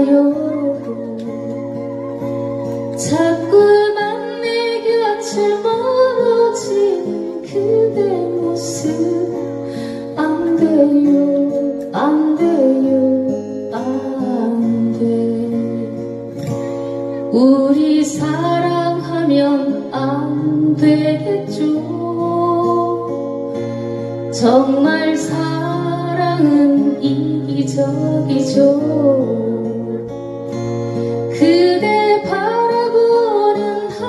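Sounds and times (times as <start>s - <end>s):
acoustic guitars playing chords: 0.0s - 34.0s
woman singing a ballad: 0.0s - 34.0s.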